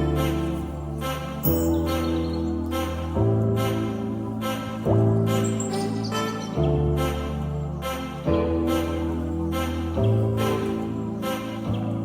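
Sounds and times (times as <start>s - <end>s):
instrumental music chords: 0.0s - 12.0s.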